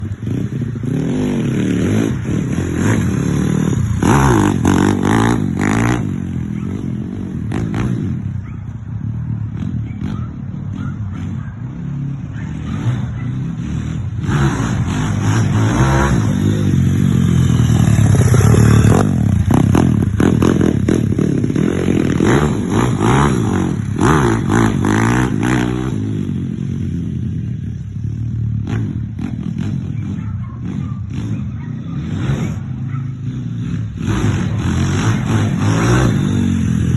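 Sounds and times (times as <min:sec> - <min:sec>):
motorbike engine revving: 0:00.0 - 0:36.9.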